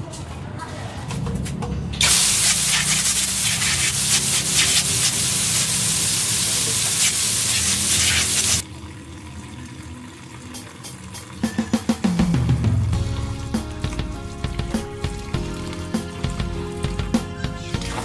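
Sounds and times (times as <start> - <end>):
water gushing from tap: 2.0 - 18.0.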